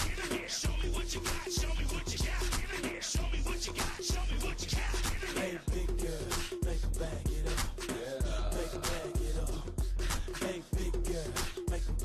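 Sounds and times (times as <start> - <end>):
hip hop music with bass beat: 0.0 - 12.0
rapped vocals: 0.0 - 12.0.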